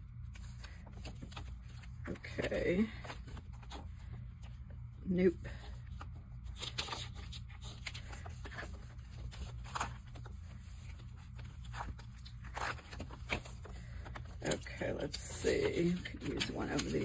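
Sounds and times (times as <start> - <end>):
paper pages rustling: 0.2 - 4.6, 5.5 - 17.0.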